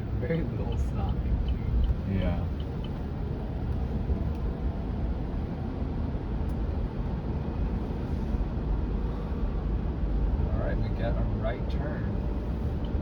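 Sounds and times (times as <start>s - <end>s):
tyre and road noise in a car: 0.0s - 13.0s.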